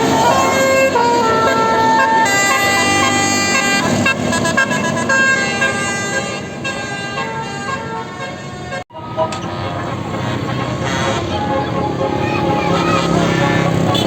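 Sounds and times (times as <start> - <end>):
multi-tone bus horn playing a tune: 0.0 - 14.0.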